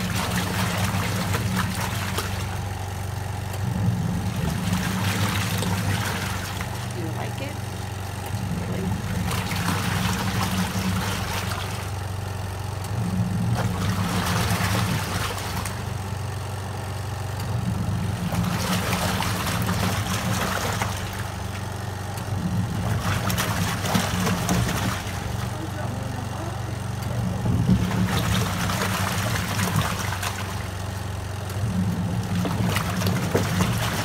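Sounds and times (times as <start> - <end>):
water and clothes sloshing: 0.0 - 2.9, 3.5 - 12.7, 13.3 - 16.1, 18.1 - 34.0
washing machine motor hum: 0.0 - 34.0.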